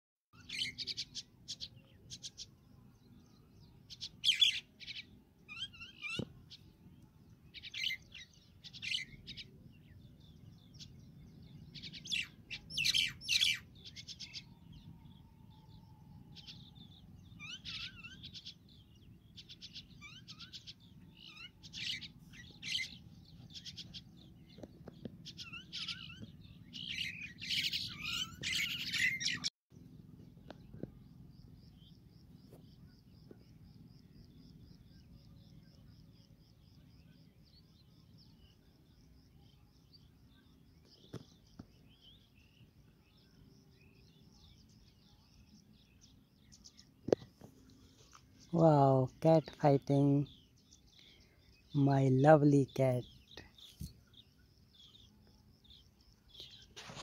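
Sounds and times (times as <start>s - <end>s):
small birds chirping: 0.4s - 57.0s.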